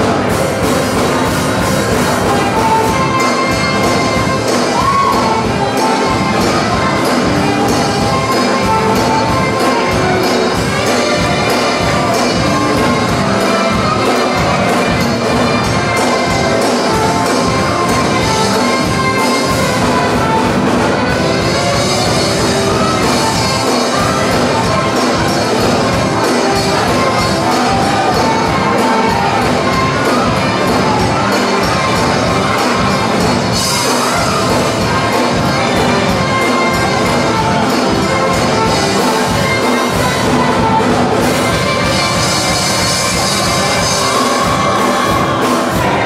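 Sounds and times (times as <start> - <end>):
church music with steady beat: 0.0 - 46.0.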